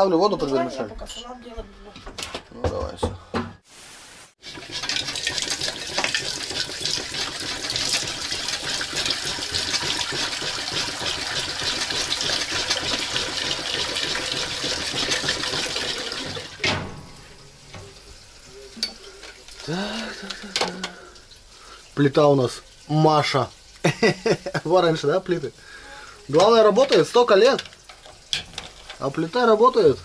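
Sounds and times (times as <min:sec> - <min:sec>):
tap water running into a pot: 0:04.4 - 0:30.0.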